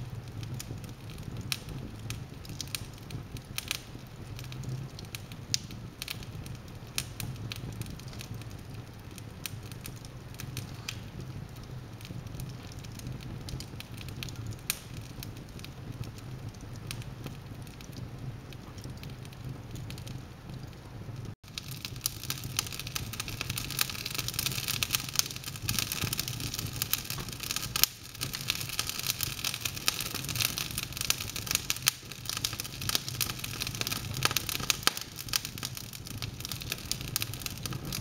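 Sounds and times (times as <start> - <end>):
low steady fire rumble: 0.0 - 38.0
wood fire crackling and popping: 0.0 - 38.0.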